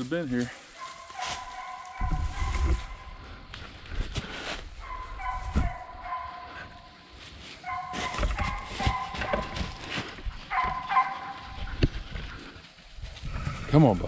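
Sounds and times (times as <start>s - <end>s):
hounds baying: 0.6s - 3.8s, 4.7s - 12.8s.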